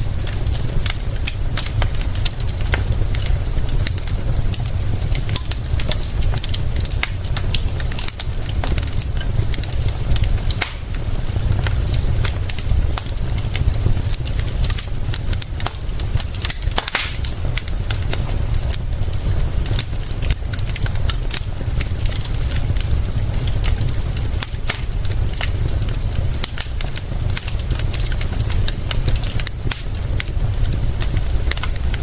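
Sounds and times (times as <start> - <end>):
rain hiss: 0.0 - 32.0
wood fire crackling and popping: 0.0 - 32.0.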